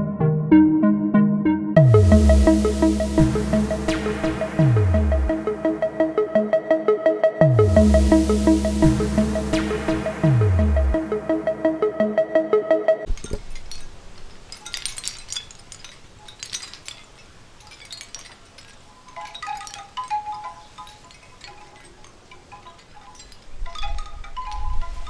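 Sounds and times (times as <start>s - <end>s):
wind chimes tinkling: 1.8s - 12.3s, 13.0s - 25.0s.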